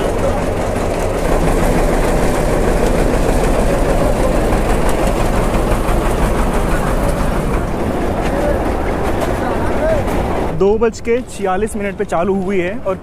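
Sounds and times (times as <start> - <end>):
train engine rumbling: 0.0 - 13.0.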